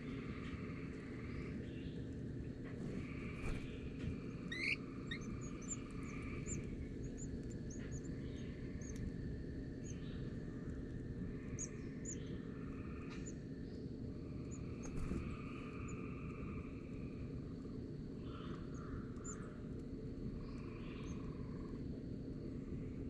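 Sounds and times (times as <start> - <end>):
low background rumble: 0.0 - 23.0
small birds chirping: 0.0 - 23.0.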